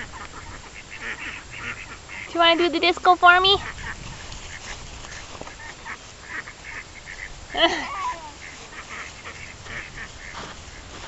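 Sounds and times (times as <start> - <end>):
duck quacking: 0.0 - 11.0.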